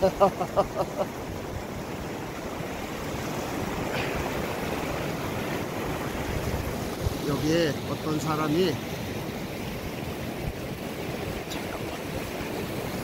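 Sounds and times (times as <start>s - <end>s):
hot spring water cascading: 0.0s - 13.0s
river water rushing: 0.0s - 13.0s.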